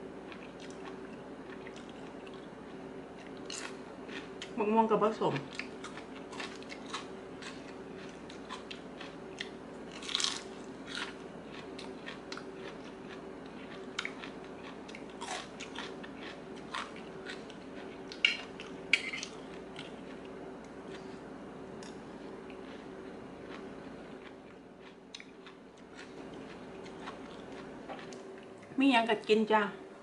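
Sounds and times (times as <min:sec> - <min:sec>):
chewing and crunching: 0:00.2 - 0:04.6, 0:05.2 - 0:29.3.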